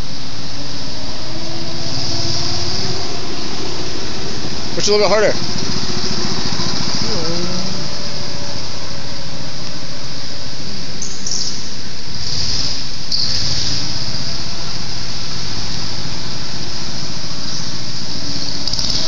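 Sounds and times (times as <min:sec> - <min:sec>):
go-karts driving past: 0:00.0 - 0:19.0.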